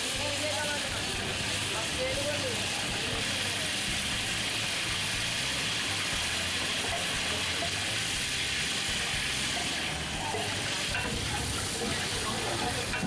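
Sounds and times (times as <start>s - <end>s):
hot oil sizzling: 0.0s - 13.0s
low street noise rumble: 0.0s - 13.0s.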